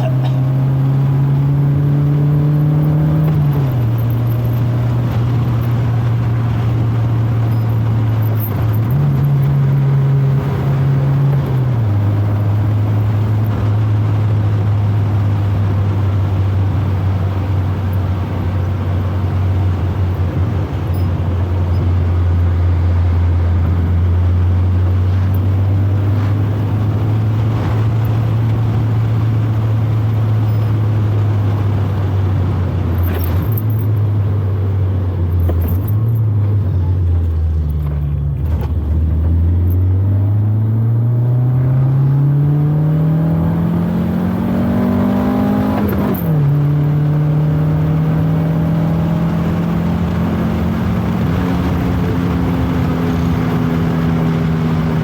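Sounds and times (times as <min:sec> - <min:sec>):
car engine changing gears: 0:00.0 - 0:55.0
road and tyre noise: 0:00.0 - 0:55.0.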